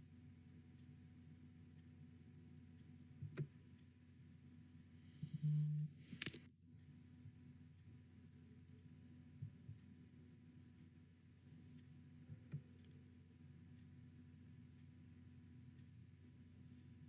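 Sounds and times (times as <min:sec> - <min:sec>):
faint audio line hum: 0:00.0 - 0:17.0.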